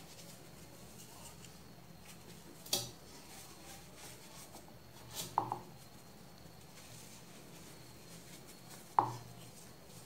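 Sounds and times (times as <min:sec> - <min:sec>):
soft crunching of powder: 0:00.0 - 0:10.0.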